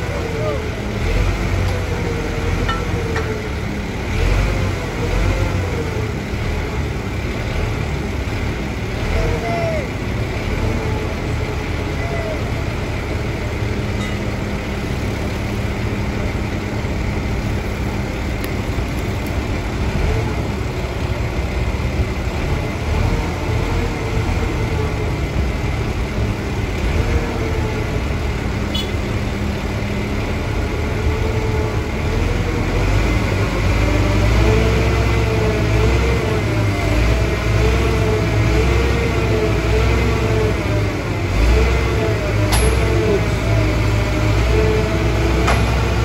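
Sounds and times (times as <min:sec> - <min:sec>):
heavy vehicle engines rumbling: 0:00.0 - 0:46.0.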